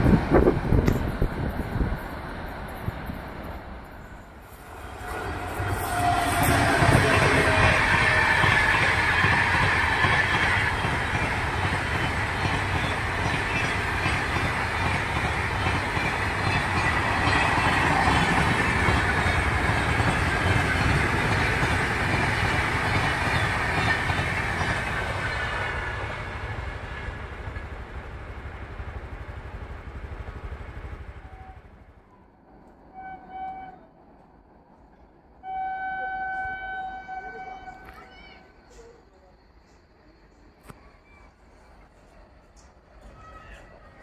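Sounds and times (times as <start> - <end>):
train wheels rushing on rail: 0.0 - 44.0.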